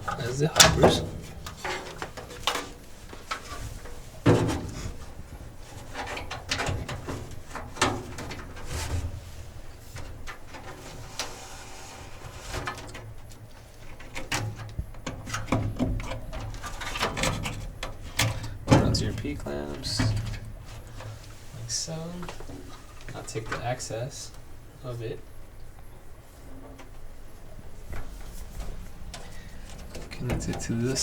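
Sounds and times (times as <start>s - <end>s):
wiring harness clicking and rustling: 0.0s - 24.6s, 25.7s - 31.0s.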